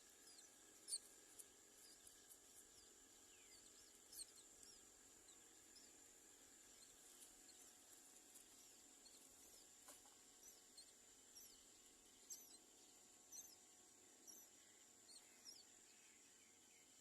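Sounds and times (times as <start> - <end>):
nestlings begging chirps: 0.0 - 17.0.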